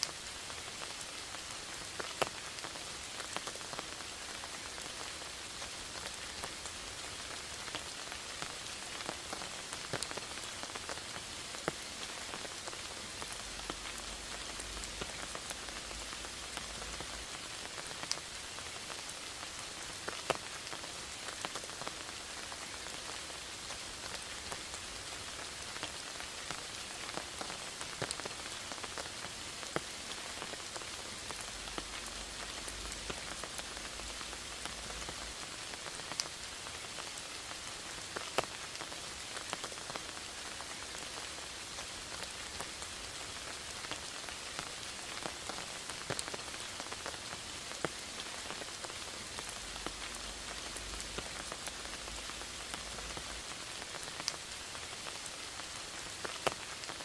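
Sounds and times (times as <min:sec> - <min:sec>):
rain pattering in a forest: 0:00.0 - 0:57.0.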